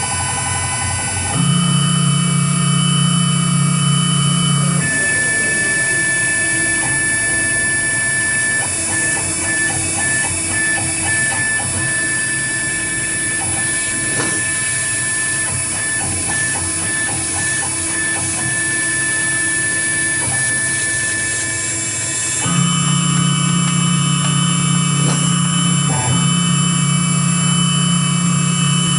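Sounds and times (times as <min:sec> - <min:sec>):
motor tone: 0:00.0 - 0:28.9
router spindle whine: 0:00.0 - 0:28.9.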